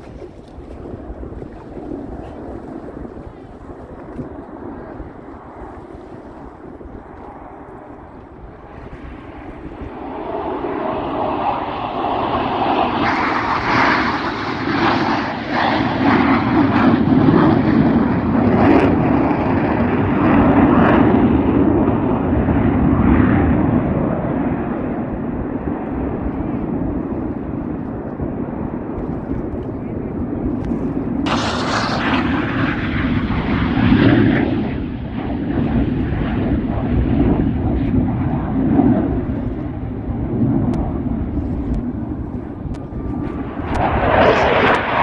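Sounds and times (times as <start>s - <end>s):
aircraft engine roar: 0.0s - 45.0s.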